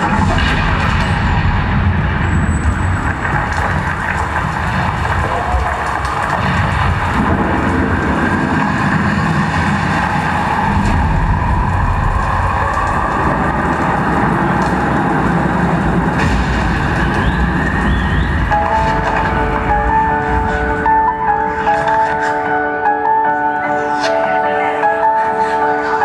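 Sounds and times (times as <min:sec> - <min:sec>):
rumbling rain-like sound effects: 0:00.0 - 0:22.4.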